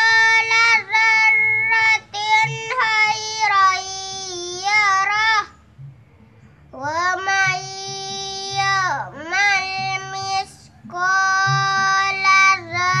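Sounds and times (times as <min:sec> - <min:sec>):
girl chanting recitation: 0:00.0 - 0:05.6, 0:06.8 - 0:13.0.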